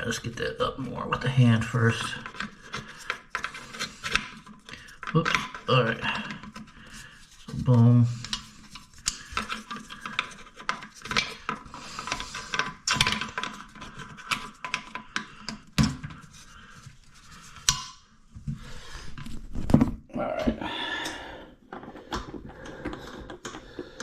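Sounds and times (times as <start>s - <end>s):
plastic and metal clicks and scrapes: 1.2s - 18.1s, 21.7s - 24.0s.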